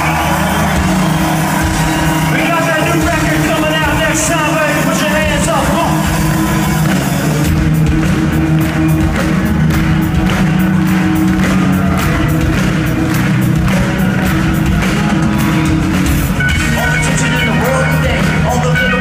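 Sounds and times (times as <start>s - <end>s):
heavy bass and guitar drone: 0.0s - 19.0s
steady drum beat: 0.0s - 19.0s.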